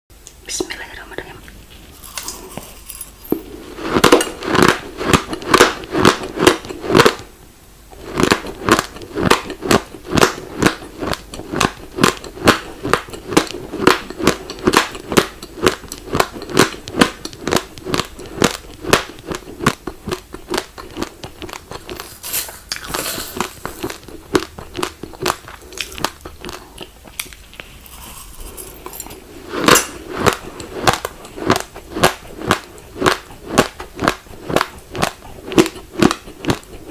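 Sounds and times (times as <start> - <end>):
chewing crunchy rice grains: 1.5 - 7.3, 8.0 - 36.9.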